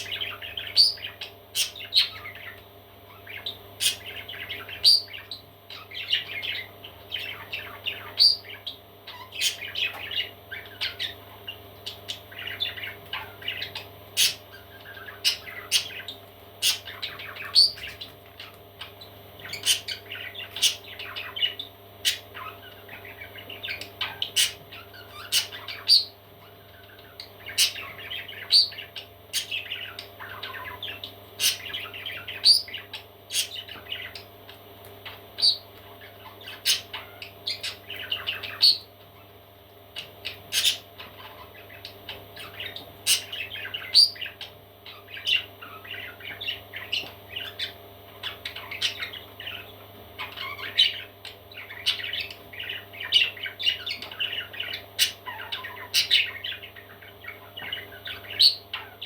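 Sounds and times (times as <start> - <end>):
parrot chicks chirping and squawking: 0.0 - 59.0
steady low hum: 0.0 - 59.0.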